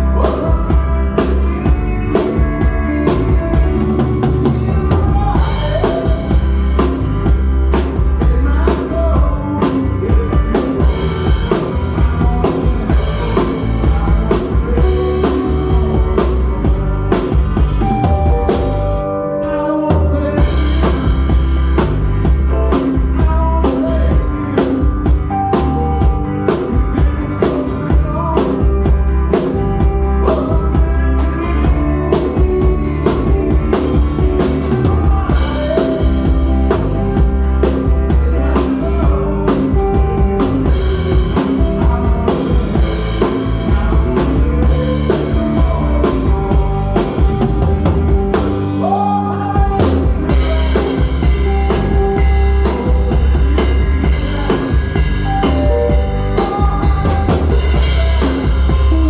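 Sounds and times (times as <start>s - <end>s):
bass guitar: 0.0s - 59.0s
drum kit: 0.0s - 59.0s
electric lead guitar: 0.0s - 59.0s.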